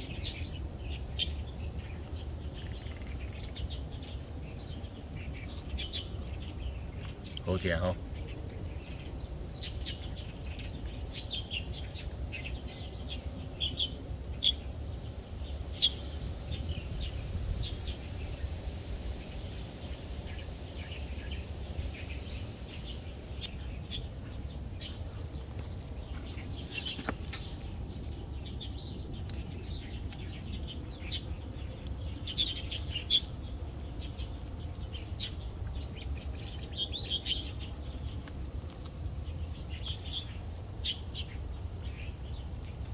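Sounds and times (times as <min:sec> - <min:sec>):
small birds chirping: 0:00.0 - 0:42.9
steady low rumble: 0:00.0 - 0:42.9.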